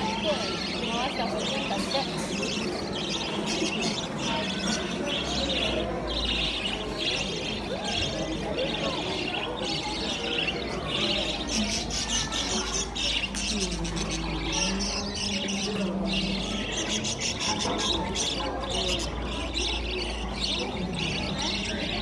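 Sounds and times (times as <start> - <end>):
budgerigars chattering: 0.0 - 22.0
high scratchy bird calls: 0.0 - 22.0.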